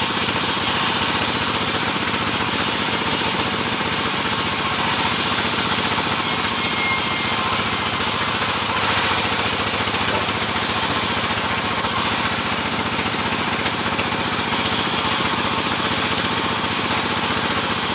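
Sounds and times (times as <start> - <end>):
sawmill machinery engine running: 0.0 - 17.9.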